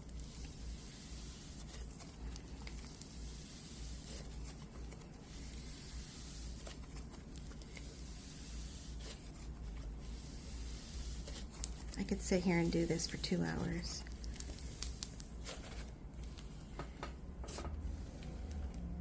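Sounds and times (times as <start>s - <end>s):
slime squishing between hands: 0.0s - 19.0s.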